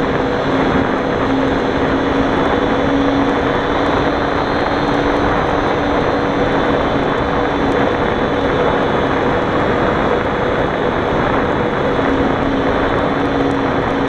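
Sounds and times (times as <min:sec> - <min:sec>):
engine droning: 0:00.0 - 0:14.0
wind noise over microphone: 0:00.0 - 0:14.0.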